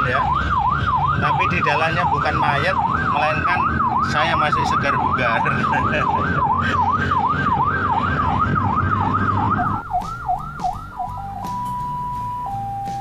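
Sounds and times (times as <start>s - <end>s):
ambulance siren wailing: 0.0s - 13.0s
vehicle road noise: 0.0s - 13.0s.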